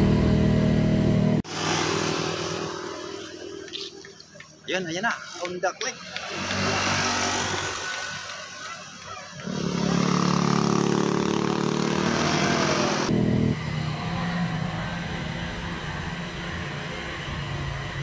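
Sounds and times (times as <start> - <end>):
quieter scooter engine humming: 1.5 - 18.0
scooter engine passing by: 1.5 - 18.0.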